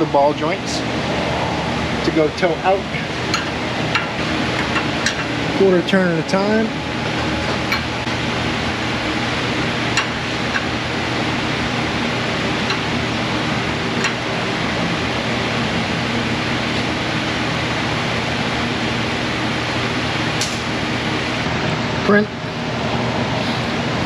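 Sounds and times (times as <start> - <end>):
fan rushing noise: 0.0 - 24.0.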